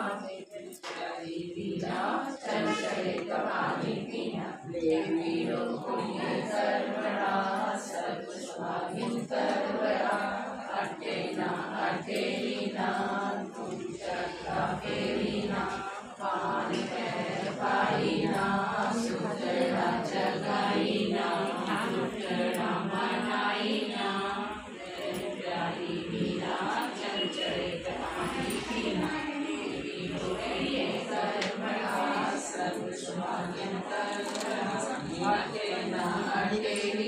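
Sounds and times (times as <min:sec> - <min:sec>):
women singing in chorus: 0:00.0 - 0:37.0.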